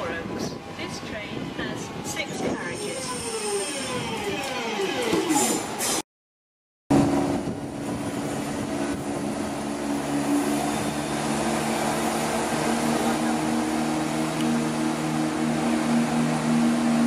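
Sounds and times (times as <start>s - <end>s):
diesel train engines droning: 0.0s - 6.0s, 6.9s - 17.0s.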